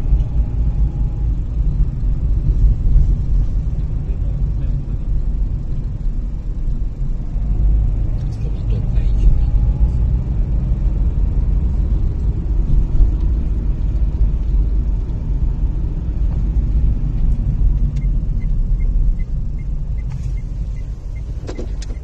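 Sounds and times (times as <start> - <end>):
car interior driving rumble: 0.0 - 22.0.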